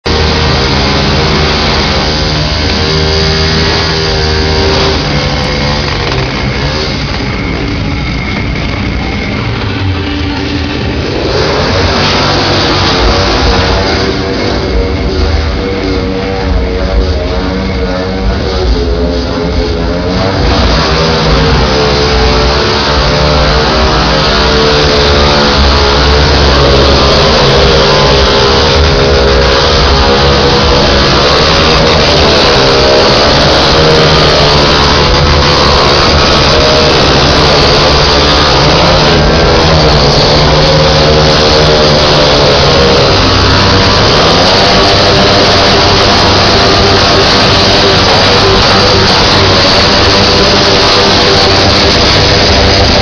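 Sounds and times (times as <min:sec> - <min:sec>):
loud music: 0:00.0 - 0:53.0
vehicle engine revving: 0:00.0 - 0:53.0.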